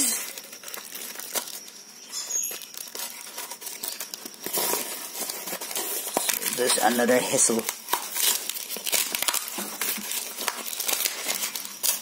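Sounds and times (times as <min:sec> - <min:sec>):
paper package crinkling: 0:00.0 - 0:12.0.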